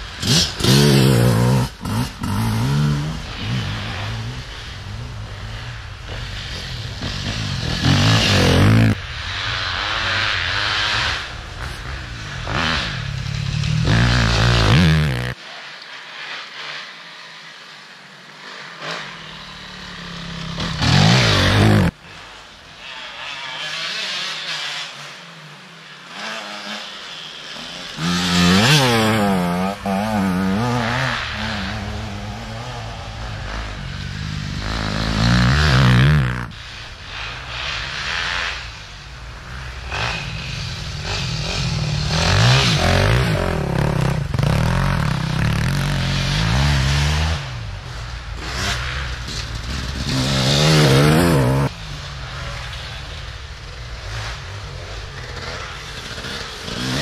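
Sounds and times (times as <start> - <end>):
motorcycles revving past: 0.0 - 57.0.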